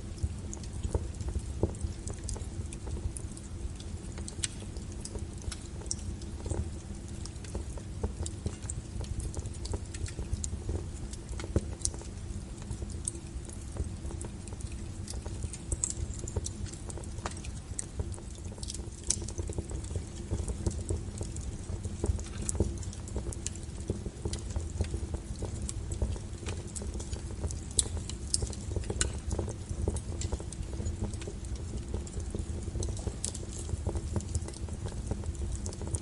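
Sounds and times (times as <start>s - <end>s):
logs crackling in fireplace: 0.0s - 36.0s
low rumble of fire: 0.0s - 36.0s.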